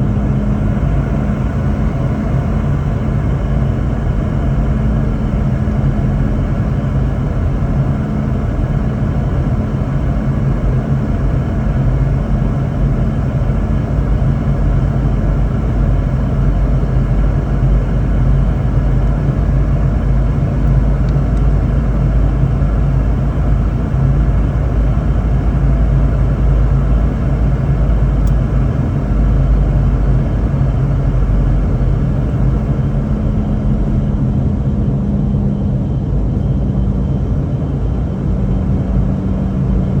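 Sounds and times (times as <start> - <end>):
airplane cabin engine rumble: 0.0 - 40.0
constant low hum: 0.0 - 40.0.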